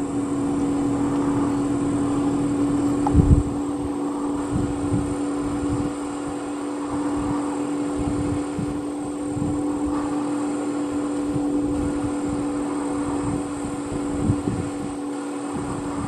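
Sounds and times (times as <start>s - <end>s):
low rumbles: 0.0s - 16.0s
vehicle engine idling: 0.0s - 16.0s.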